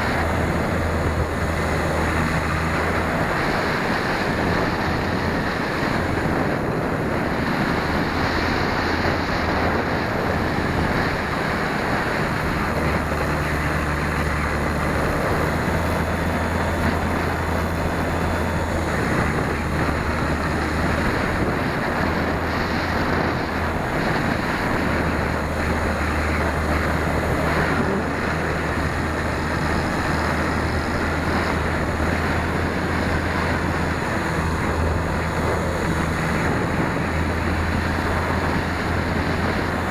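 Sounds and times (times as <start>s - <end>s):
electric motor and propeller drone: 0.0s - 39.9s
wind rushing over microphone: 0.0s - 39.9s.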